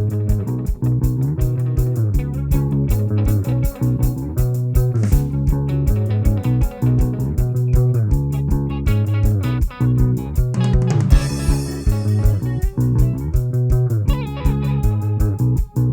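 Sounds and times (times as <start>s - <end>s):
guitar and bass music with beat: 0.0s - 15.9s.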